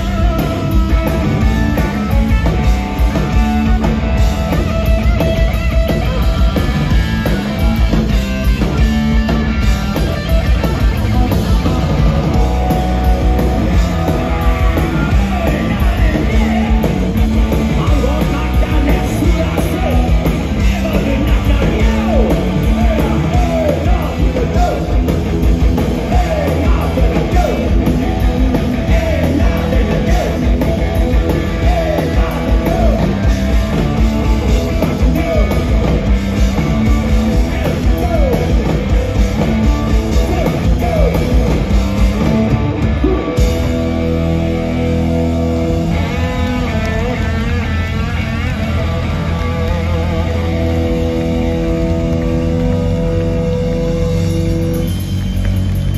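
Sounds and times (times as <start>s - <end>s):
punk rock band playing: 0.0s - 55.9s.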